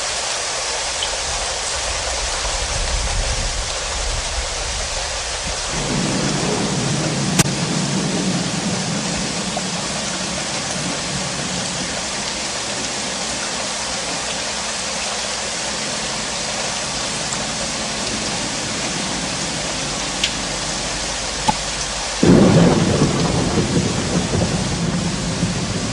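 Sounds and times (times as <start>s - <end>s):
heavy rain hissing: 0.0s - 25.9s
low thunder rumble: 0.9s - 14.1s, 15.8s - 25.9s.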